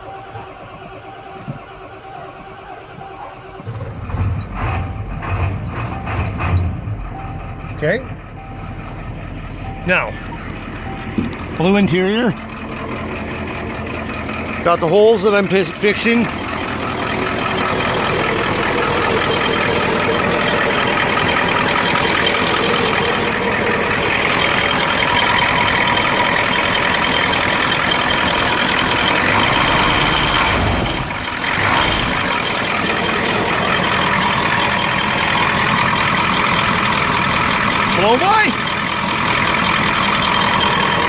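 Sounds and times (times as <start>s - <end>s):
diesel pickup engine idling: 0.0s - 41.0s.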